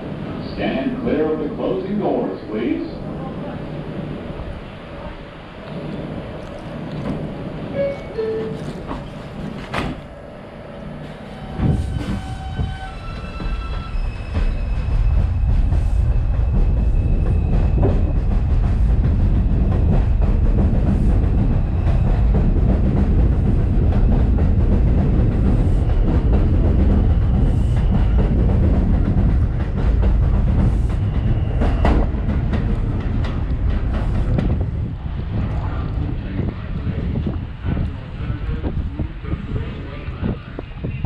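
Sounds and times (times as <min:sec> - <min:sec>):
subway train rumbling past: 0:00.0 - 0:41.0.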